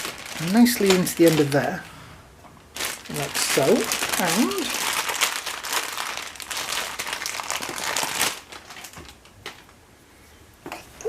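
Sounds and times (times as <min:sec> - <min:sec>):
plastic packaging crinkling: 0:00.0 - 0:01.8, 0:02.6 - 0:09.8.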